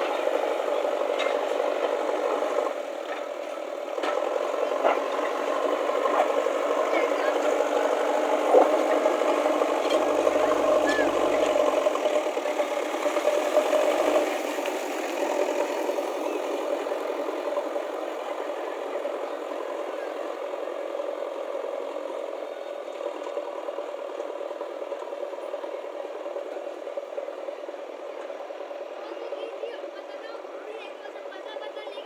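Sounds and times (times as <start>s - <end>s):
vehicle engine rattling: 0.0s - 32.0s.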